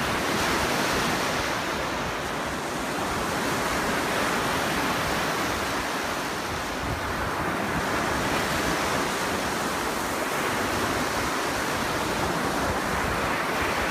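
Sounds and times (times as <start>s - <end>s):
waves breaking on beach: 0.0s - 13.9s.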